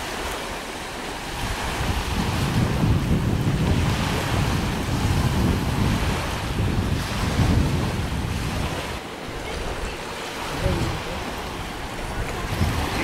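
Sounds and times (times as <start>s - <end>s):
small waves washing ashore: 0.0s - 13.0s
wind buffeting microphone: 0.0s - 13.0s.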